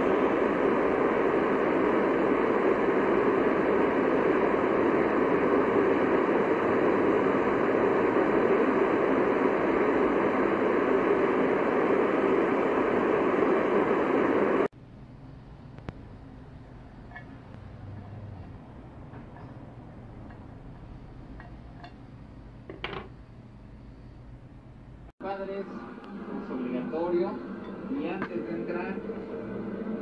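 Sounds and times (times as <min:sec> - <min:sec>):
propane torch roaring: 0:00.0 - 0:14.7, 0:15.4 - 0:30.0.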